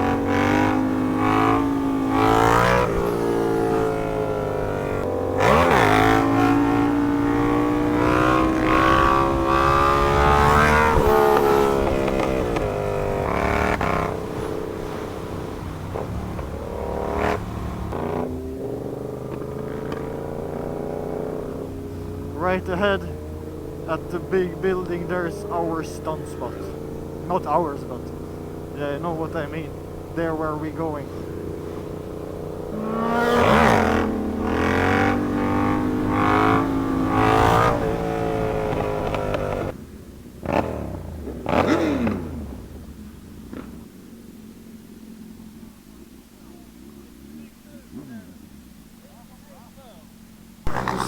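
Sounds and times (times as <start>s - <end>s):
motorcycle engine upshifting: 0.0s - 51.0s.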